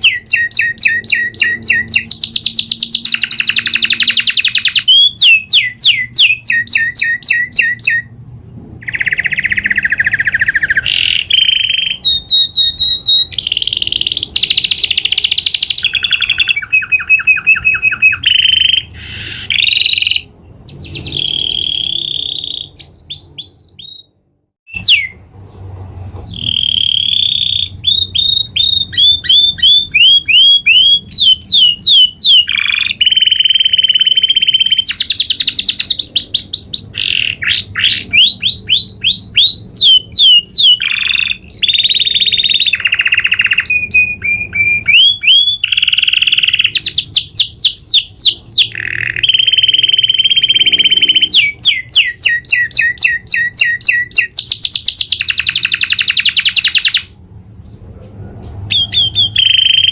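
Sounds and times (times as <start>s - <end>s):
canary singing: 0.0s - 25.6s, 26.2s - 59.9s.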